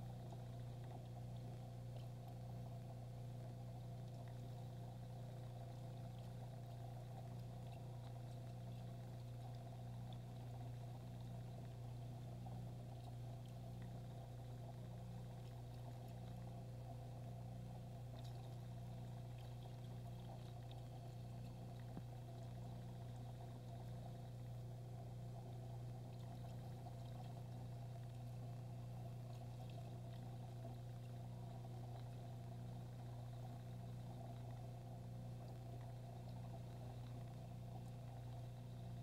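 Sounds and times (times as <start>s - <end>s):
aquarium filter humming: 0.0s - 39.0s
faint trickling water: 0.0s - 39.0s.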